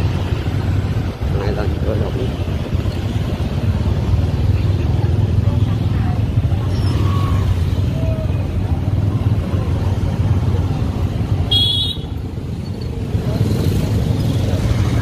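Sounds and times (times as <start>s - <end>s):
scooter engines rumbling: 0.0s - 15.0s.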